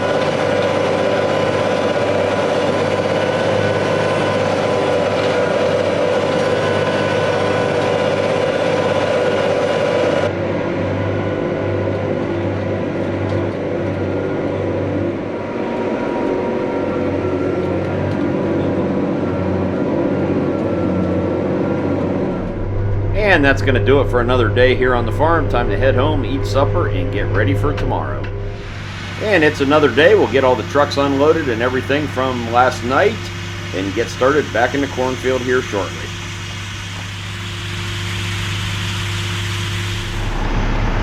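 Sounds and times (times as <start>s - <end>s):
heavy machinery engine drone: 0.0s - 41.0s.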